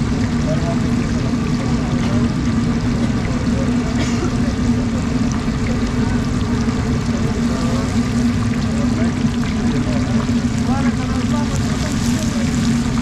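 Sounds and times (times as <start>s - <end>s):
fish sizzling in hot oil: 0.0s - 13.0s
low hum and rumble: 0.0s - 13.0s.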